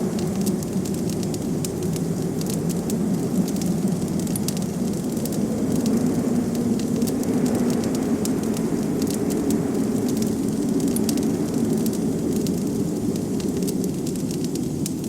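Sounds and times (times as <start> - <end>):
low rush of wind: 0.0 - 15.0
wood fire crackling: 0.0 - 15.0.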